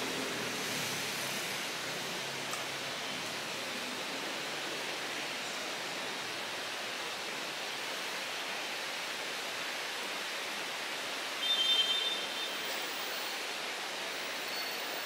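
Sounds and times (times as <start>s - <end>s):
room noise hiss: 0.0s - 15.0s.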